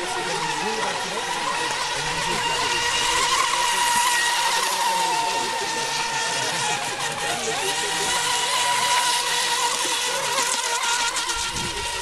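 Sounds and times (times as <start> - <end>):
high-pitched model boat motor whine: 0.0 - 12.0.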